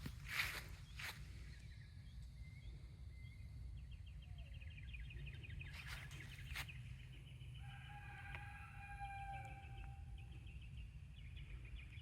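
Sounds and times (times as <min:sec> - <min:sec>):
small bird singing: 0:00.0 - 0:12.0.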